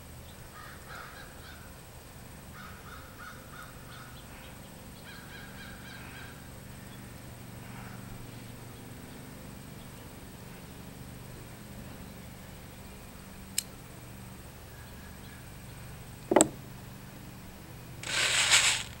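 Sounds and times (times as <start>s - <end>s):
steady low hum: 0.0s - 19.0s
faint bird calls: 0.2s - 1.8s, 2.4s - 13.4s, 14.5s - 17.1s.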